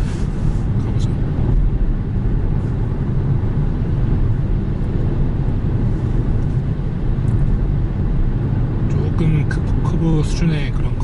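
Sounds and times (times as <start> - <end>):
wind noise inside car: 0.0 - 11.0.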